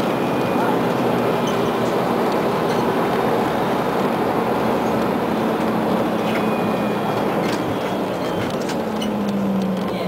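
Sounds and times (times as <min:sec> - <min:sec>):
bus body rattling and clicking: 0:00.0 - 0:10.0
bus engine hum: 0:00.0 - 0:10.0
road rumble: 0:00.0 - 0:10.0.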